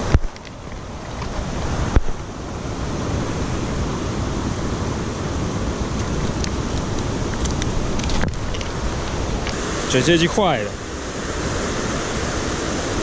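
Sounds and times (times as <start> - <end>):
creek flowing: 0.0 - 13.0
wind on microphone: 0.0 - 13.0.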